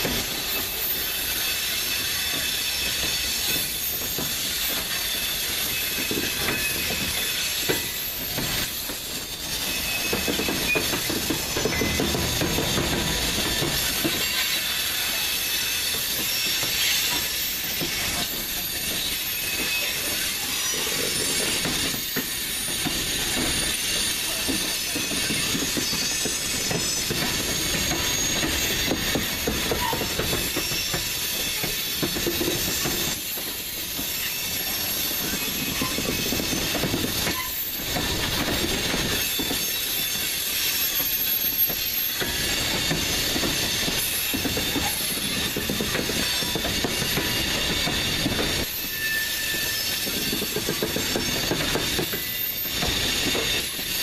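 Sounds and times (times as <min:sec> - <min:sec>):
faint high wheel squeal: 0:00.0 - 0:54.0
train wheels rumbling and knocking: 0:00.0 - 0:54.0.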